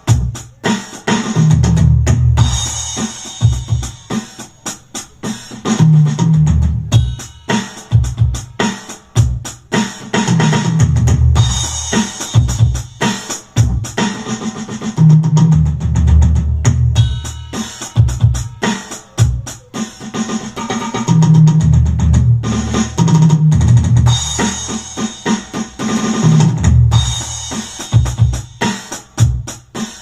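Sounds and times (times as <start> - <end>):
electronic drum beat: 0.0 - 30.0.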